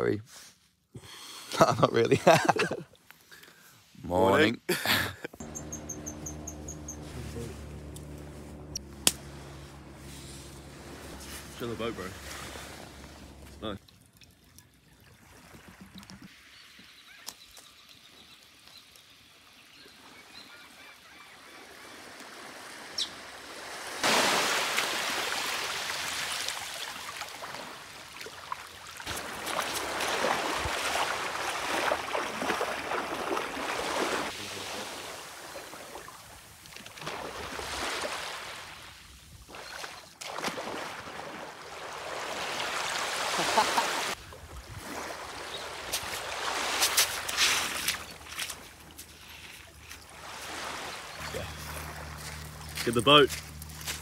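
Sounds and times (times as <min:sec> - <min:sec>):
small waves lapping: 0:05.4 - 0:17.2, 0:18.5 - 0:54.0
water splashing in shallows: 0:05.4 - 0:17.2, 0:19.9 - 0:54.0.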